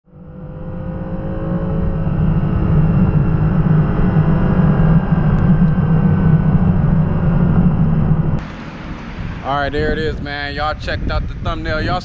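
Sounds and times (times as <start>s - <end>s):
car engine drone: 0.1s - 12.0s
road noise: 0.1s - 12.0s.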